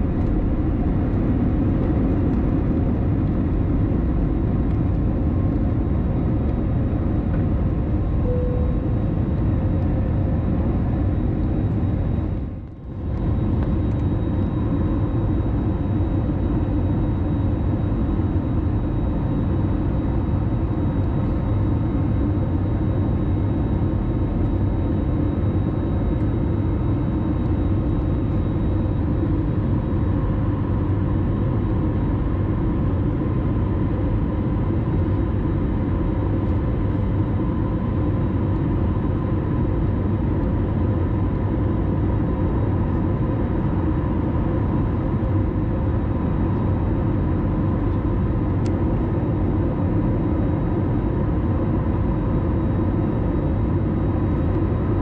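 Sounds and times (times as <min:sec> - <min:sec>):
faint steady whines: 0:00.0 - 0:55.0.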